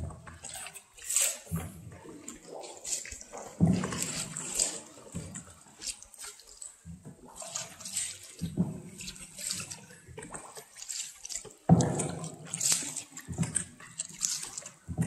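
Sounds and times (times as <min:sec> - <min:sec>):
water splashing around boat: 0:00.0 - 0:15.0.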